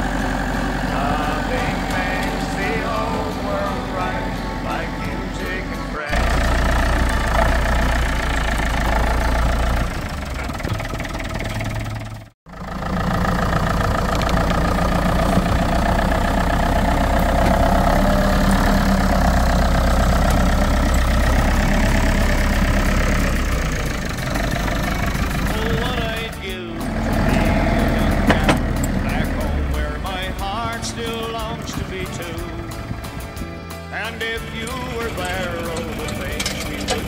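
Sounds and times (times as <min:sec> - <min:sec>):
tractor diesel engine idling: 0:00.0 - 0:37.0.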